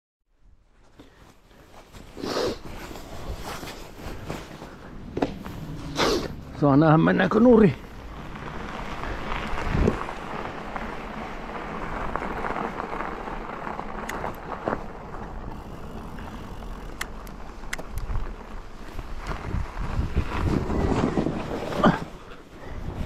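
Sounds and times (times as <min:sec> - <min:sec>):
tyre noise on rough ground: 0:00.7 - 0:23.0.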